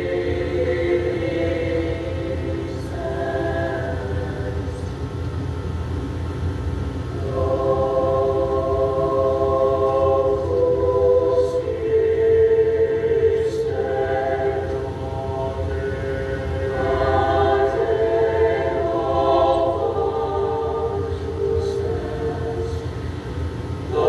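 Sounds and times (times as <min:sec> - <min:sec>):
mixed choir singing chords: 0:00.0 - 0:05.1, 0:07.1 - 0:24.0.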